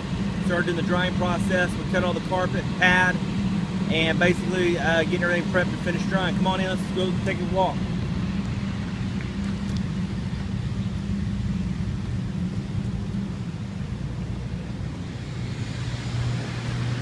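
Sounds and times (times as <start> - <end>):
dehumidifier and fans humming: 0.0 - 17.0
generator engine drone: 0.0 - 17.0.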